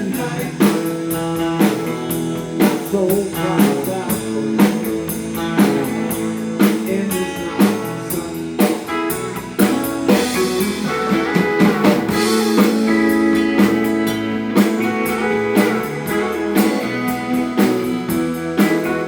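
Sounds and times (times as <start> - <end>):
drum kit steady beat: 0.0 - 19.0
guitars: 0.0 - 19.0
live blues band playing: 0.0 - 19.0.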